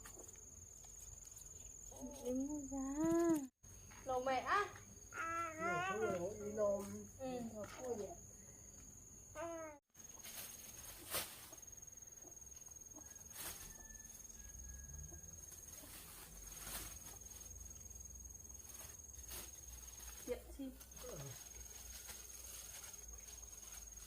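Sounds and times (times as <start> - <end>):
high insect trill: 0.0 - 24.0.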